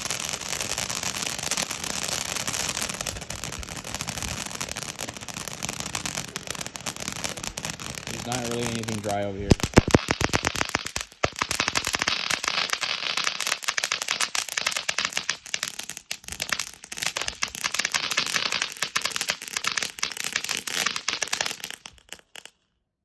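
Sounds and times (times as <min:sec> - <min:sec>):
fountain firework crackling: 0:00.0 - 0:22.6.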